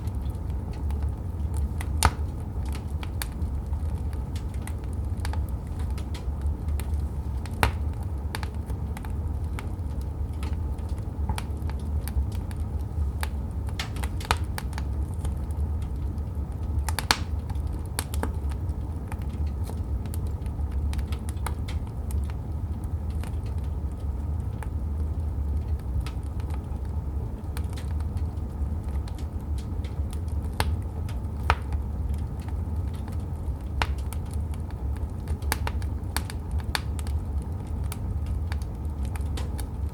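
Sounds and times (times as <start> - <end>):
burning logs rumbling: 0.0 - 39.9
fire popping and snapping: 0.0 - 39.9.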